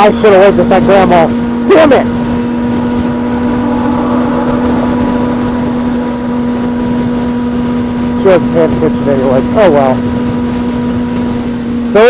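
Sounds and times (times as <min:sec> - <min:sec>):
road and wind noise: 0:00.0 - 0:12.0
vehicle engine running steadily: 0:00.0 - 0:12.0.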